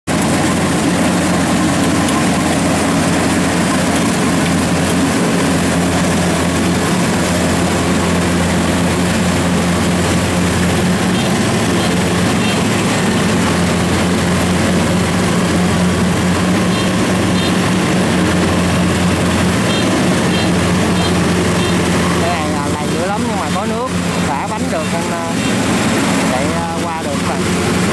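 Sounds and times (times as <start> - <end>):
loud mechanical drone: 0.0 - 27.9.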